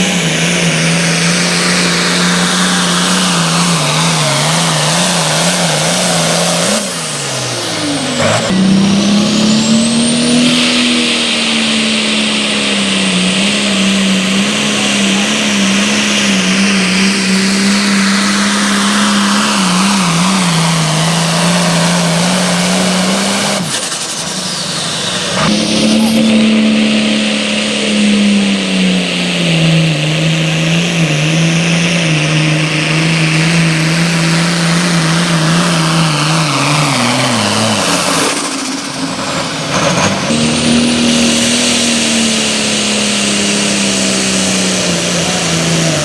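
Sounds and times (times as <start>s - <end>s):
engine running under load: 0.0s - 46.0s.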